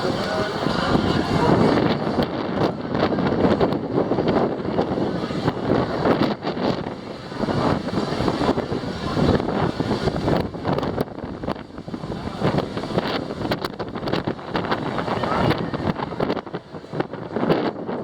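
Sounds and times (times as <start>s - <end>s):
gusty wind buffeting microphone: 0.0s - 18.0s.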